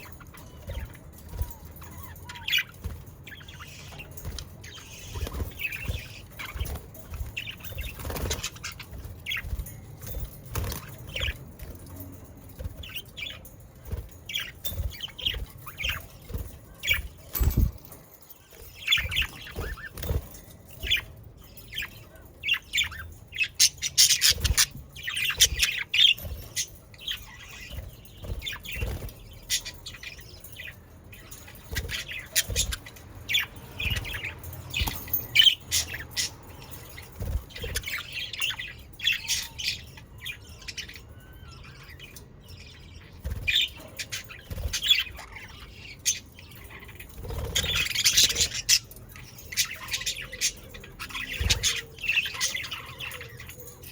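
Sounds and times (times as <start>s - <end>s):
budgerigars chirping and squawking: 0.0s - 12.0s, 12.6s - 53.9s.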